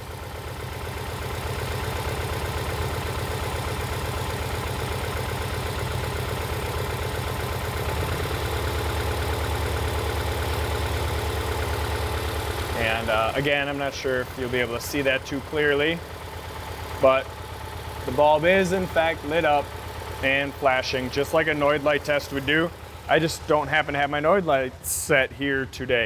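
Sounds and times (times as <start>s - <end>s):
car engine idling roughly: 0.0s - 26.0s.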